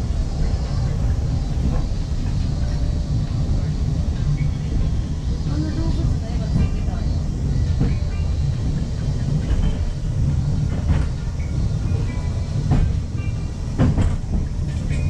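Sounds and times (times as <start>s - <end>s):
railway car rumble: 0.0s - 15.0s.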